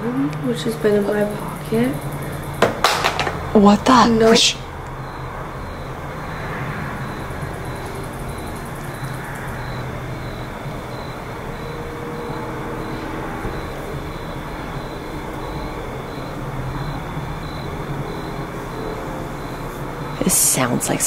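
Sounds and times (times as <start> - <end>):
low rumble of distant traffic: 0.0 - 21.0.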